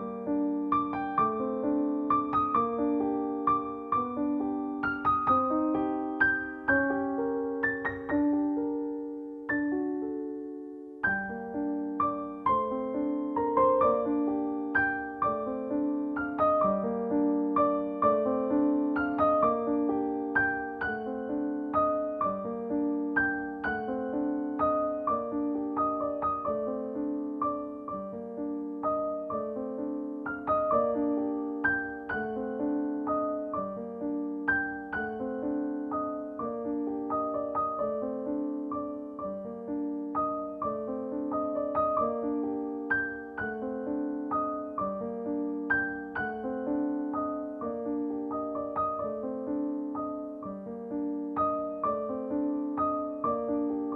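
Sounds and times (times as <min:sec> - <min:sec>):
gentle piano music: 0:00.0 - 0:53.9.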